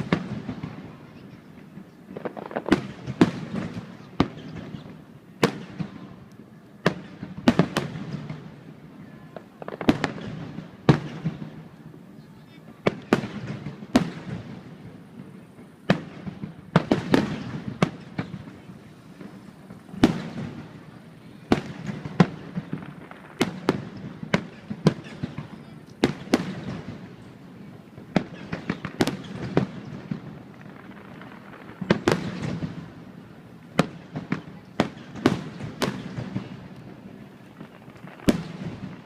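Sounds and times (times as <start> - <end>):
fireworks bursting: 0.0 - 39.0.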